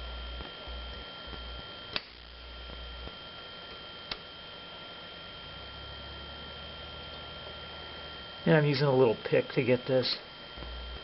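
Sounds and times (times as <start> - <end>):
faint high whine: 0.0 - 11.0
low electrical hum: 0.0 - 11.0.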